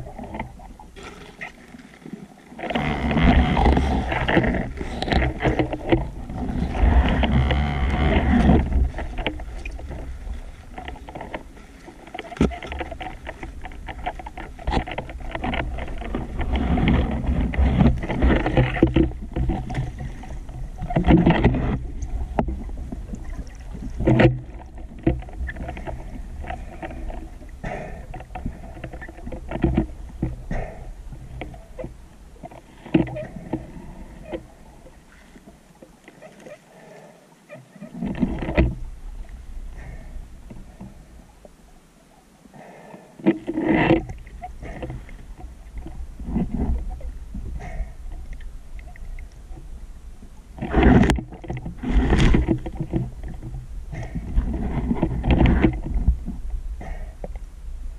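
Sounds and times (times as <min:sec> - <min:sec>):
underwater rumble of water: 0:00.0 - 0:57.9.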